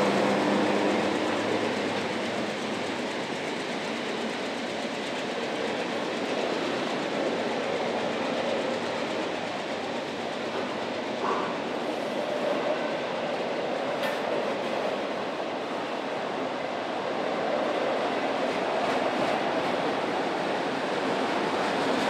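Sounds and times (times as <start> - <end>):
train wheels rolling on rail: 0.0 - 22.0.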